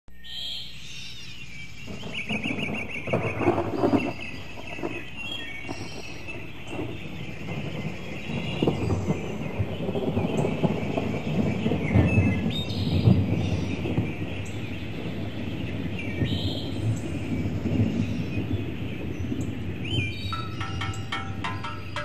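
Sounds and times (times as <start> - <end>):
birds chirping and trilling: 0.1 - 22.0
crackling rumble of noise: 1.6 - 22.0.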